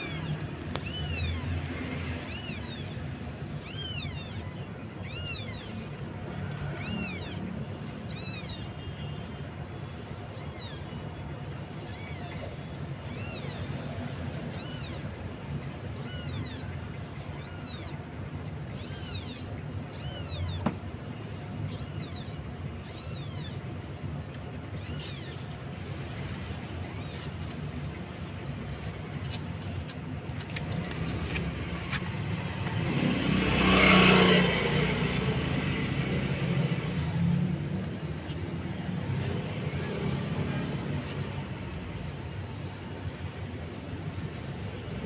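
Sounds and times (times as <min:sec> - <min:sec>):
kitten mewing: 0:00.0 - 0:08.7, 0:10.2 - 0:33.0, 0:33.7 - 0:43.1.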